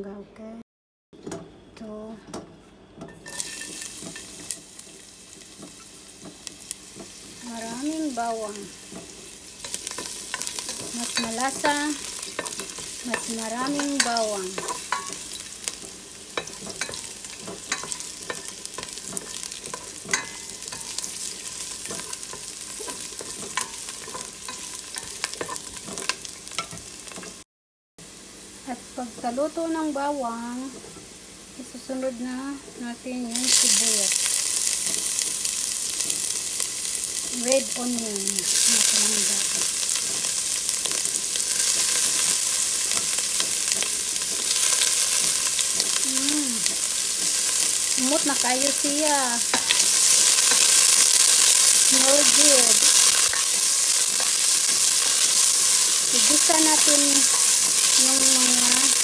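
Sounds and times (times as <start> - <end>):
garlic sizzling in oil: 3.1 - 59.0.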